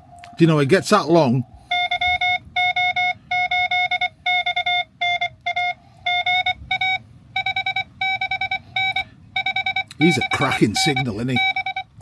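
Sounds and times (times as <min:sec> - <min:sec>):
morse code tone: 0:01.7 - 0:12.0.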